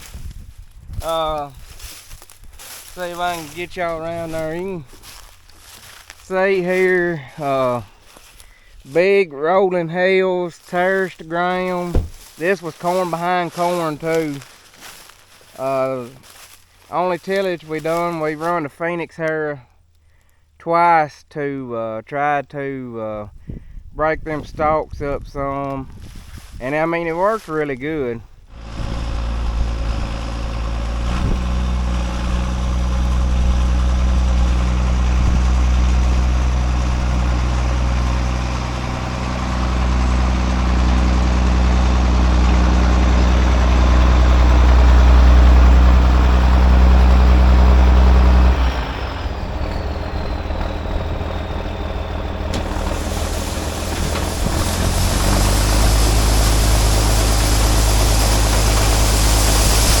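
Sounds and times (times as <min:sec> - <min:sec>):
heavy diesel engine running: 0:00.9 - 0:18.6, 0:28.5 - 1:00.0.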